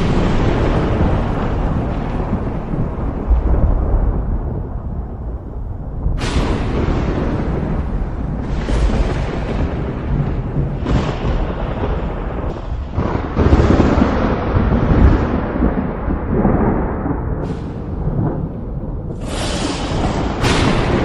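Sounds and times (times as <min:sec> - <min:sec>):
thunder cracking and rumbling: 0:00.0 - 0:21.0.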